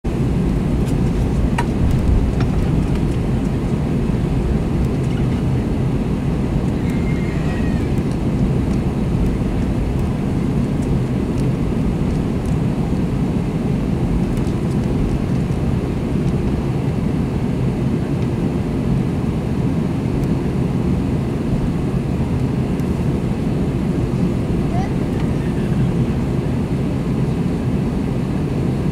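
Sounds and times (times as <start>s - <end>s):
jet engines rumbling: 0.1s - 28.9s.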